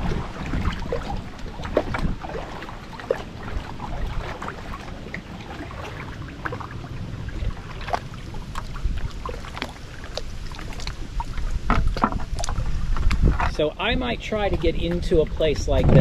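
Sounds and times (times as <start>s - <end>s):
small splashes and drips: 0.0s - 13.5s
paddle strokes in water: 0.0s - 16.0s
wind rumble on microphone: 0.0s - 16.0s.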